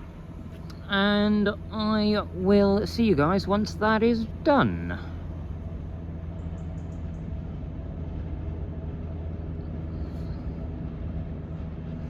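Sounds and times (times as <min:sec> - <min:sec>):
diesel train engine humming: 0:00.0 - 0:12.0.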